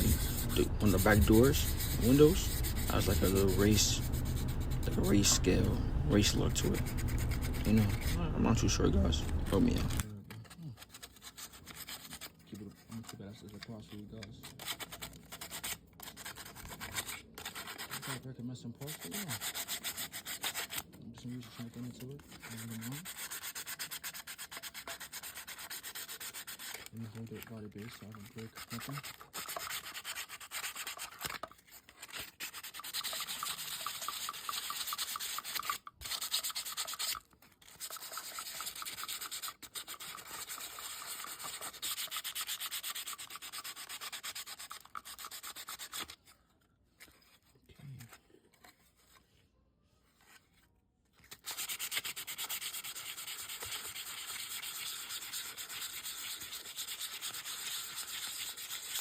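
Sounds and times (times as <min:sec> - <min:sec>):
sandpaper rubbing back and forth: 0:00.0 - 0:13.8, 0:14.4 - 0:46.2, 0:51.3 - 0:59.0.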